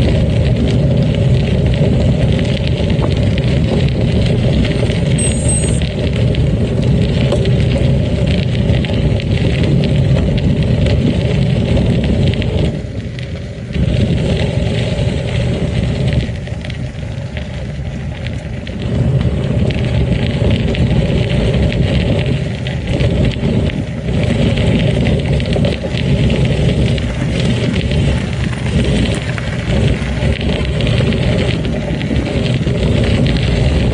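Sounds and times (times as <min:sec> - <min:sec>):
bike rattling: 0:00.0 - 0:33.9
tyres rolling on gravel: 0:00.0 - 0:33.9
wind rushing over camera: 0:00.0 - 0:33.9.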